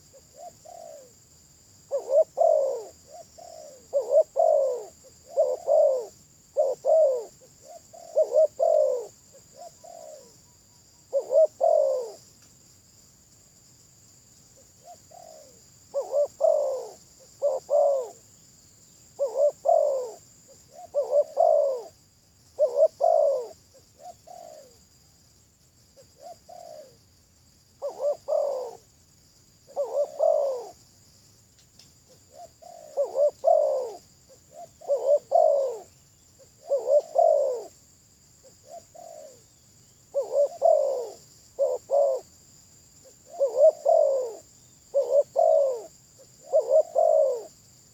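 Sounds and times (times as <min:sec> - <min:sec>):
dove cooing: 0:00.0 - 0:01.2, 0:01.9 - 0:12.3, 0:14.8 - 0:18.5, 0:19.2 - 0:24.8, 0:26.0 - 0:27.0, 0:27.8 - 0:28.9, 0:29.6 - 0:30.8, 0:32.2 - 0:37.8, 0:38.4 - 0:42.4, 0:43.0 - 0:47.6.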